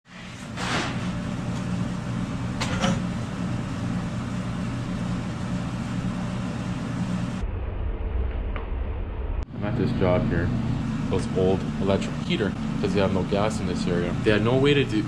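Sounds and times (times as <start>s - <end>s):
electric pump hum: 0.1s - 7.6s, 9.5s - 15.0s.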